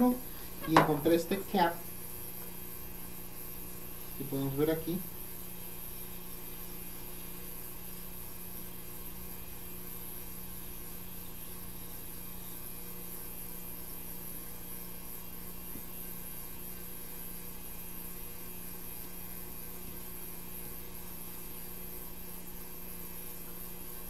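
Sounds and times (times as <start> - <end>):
electrical hum: 0.0 - 24.0
faint high whine: 0.0 - 24.0.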